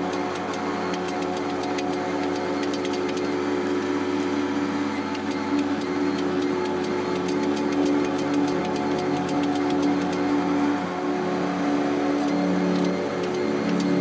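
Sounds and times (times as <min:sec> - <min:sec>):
hydraulic press motor humming: 0:00.0 - 0:14.0.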